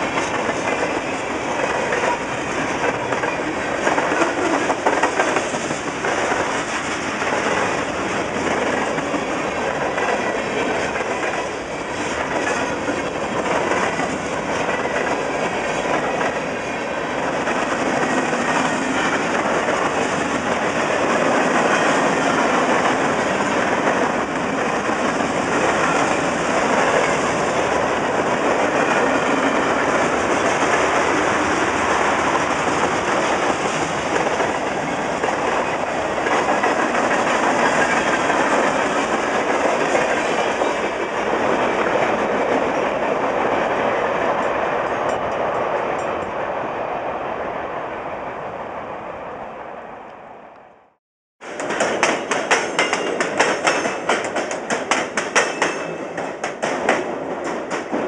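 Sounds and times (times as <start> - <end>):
steel wheels running on rails: 0.0 - 46.3, 51.4 - 58.0.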